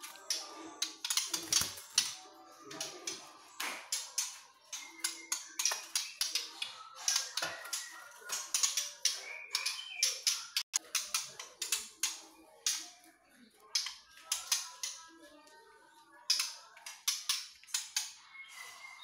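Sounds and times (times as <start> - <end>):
songbirds clicking and chirping: 0.0 - 19.0.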